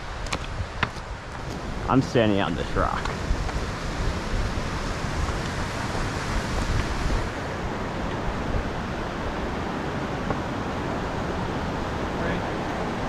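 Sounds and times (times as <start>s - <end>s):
rushing stream: 0.0s - 13.0s
wind buffeting microphone: 0.0s - 13.0s.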